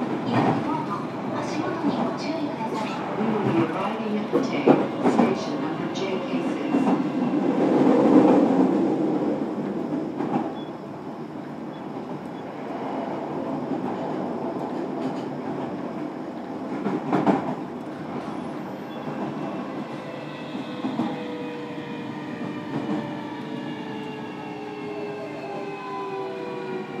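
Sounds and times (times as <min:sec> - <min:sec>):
rumble of train wheels on track: 0:00.0 - 0:27.0.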